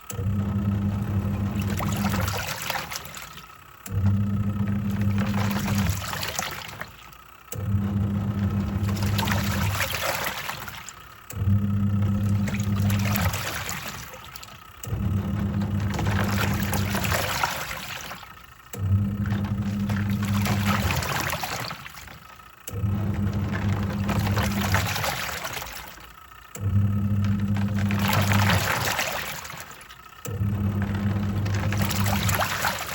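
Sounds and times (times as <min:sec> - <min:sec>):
washing machine motor humming: 0:00.0 - 0:32.9
water sloshing: 0:01.2 - 0:32.9.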